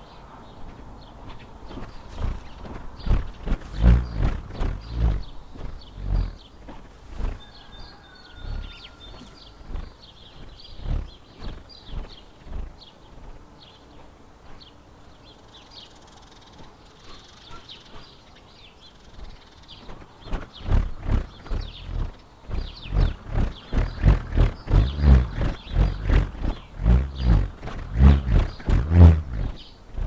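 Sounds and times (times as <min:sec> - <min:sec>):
birds chirping: 0:00.0 - 0:30.0
bullroarer whirring drone: 0:00.6 - 0:14.7, 0:19.2 - 0:30.0.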